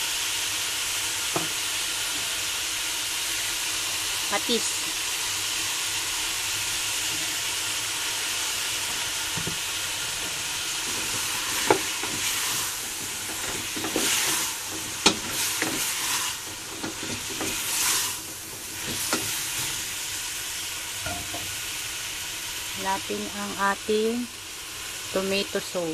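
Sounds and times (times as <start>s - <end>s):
vegetables sizzling in a pan: 0.0s - 25.9s.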